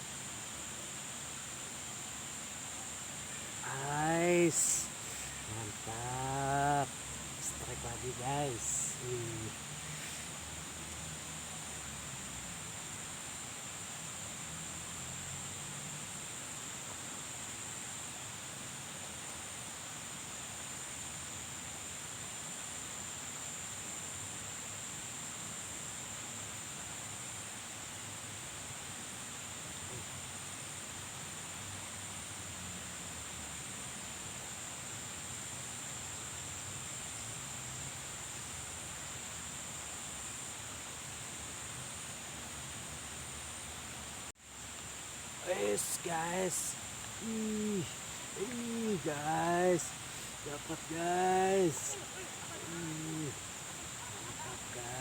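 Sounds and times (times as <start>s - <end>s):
insects droning: 0.0s - 55.0s
outdoor hiss: 0.0s - 55.0s.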